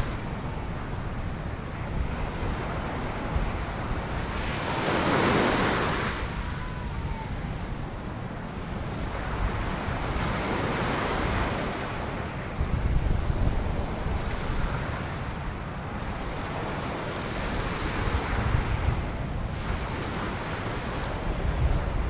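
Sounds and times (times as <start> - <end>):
small waves breaking on sand: 0.0 - 22.0
wind rumble on microphone: 0.0 - 22.0.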